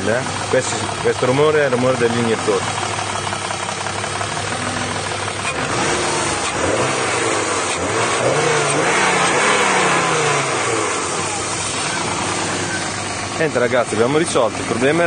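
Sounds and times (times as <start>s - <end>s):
car engine revving: 0.0s - 15.0s
fuel injectors ticking: 0.0s - 15.0s.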